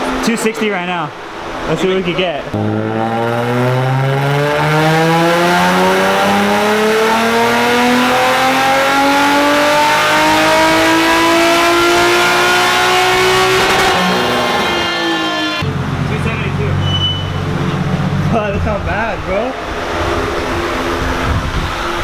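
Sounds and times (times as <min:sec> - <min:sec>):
car engine revving: 0:01.2 - 0:22.0.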